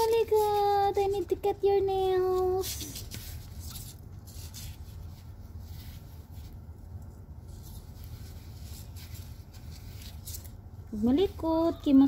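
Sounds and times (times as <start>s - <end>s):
low steady hum: 0.0s - 12.0s
handling rustle: 2.1s - 12.0s.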